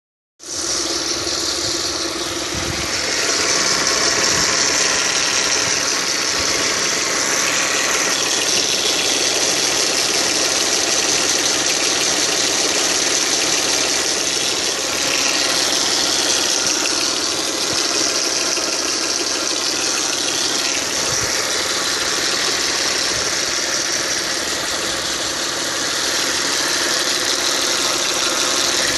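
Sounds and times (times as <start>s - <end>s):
car engine running with knock: 0.4s - 28.9s.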